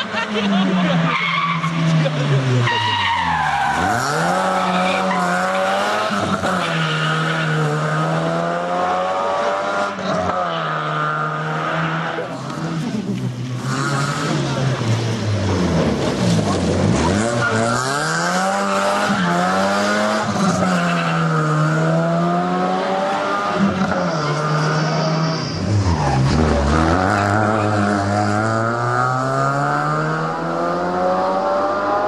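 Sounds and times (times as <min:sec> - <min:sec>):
rally car engine accelerating: 0:00.0 - 0:32.0.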